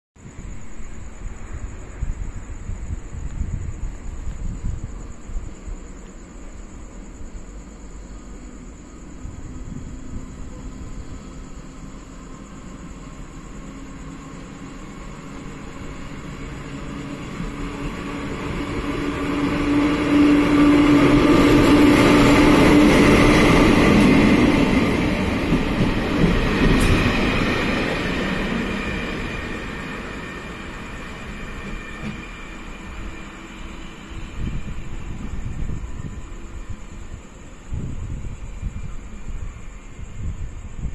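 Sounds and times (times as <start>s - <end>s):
train passing at speed: 0.2s - 40.9s.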